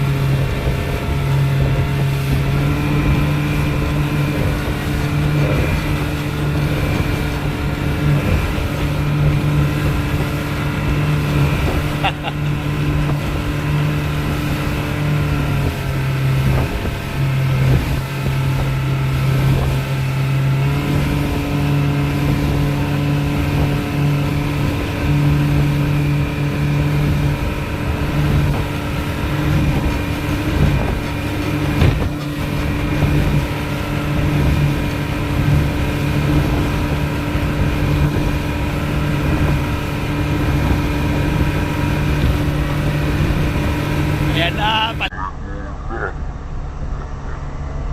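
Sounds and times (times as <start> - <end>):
speedboat engine running: 0.0 - 47.9.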